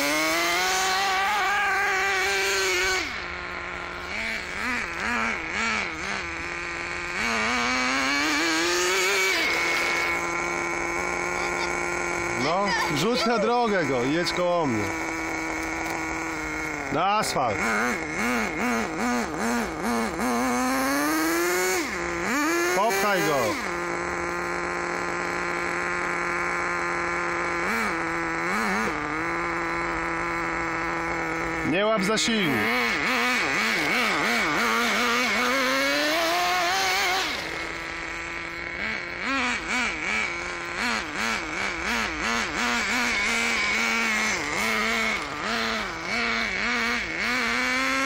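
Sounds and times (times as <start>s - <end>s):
small nitro engine revving: 0.0s - 48.0s.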